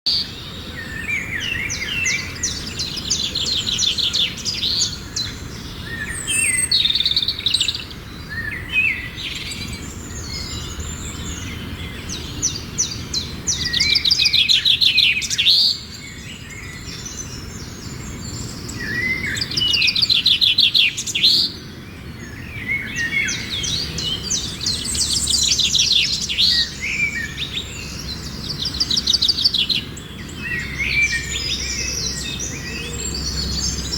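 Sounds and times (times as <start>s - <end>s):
birds singing and chirping: 0.1s - 33.9s.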